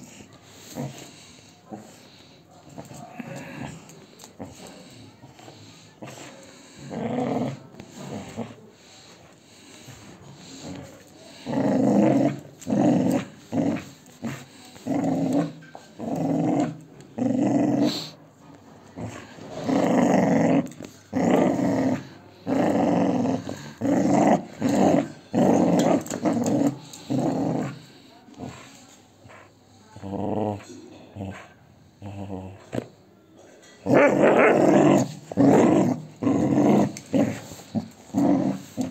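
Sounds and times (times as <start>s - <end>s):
dog play-growling: 0.0s - 33.0s, 33.8s - 38.9s.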